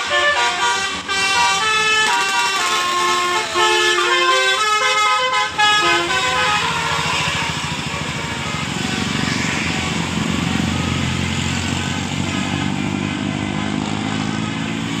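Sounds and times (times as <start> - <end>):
vehicle engine throbbing: 0.0 - 15.0.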